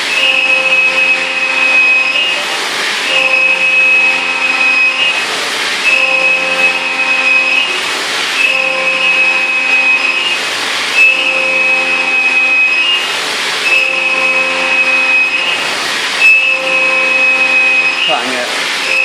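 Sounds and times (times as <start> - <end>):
milling machine high-pitched whine: 0.0 - 19.0.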